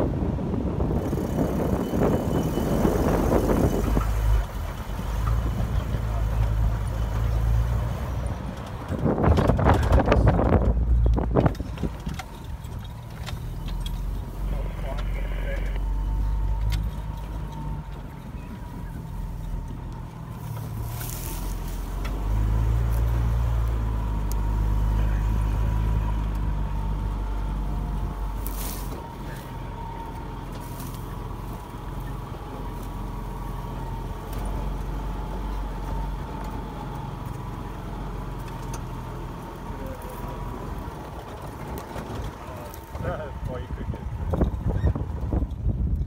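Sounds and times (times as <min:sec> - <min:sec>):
vehicle engine rumbling: 0:00.0 - 0:46.0.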